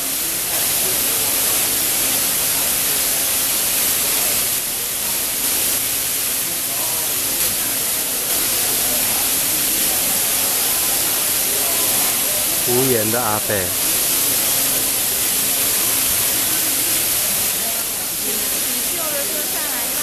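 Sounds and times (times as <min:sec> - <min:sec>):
water pouring off roof: 0:00.0 - 0:20.0.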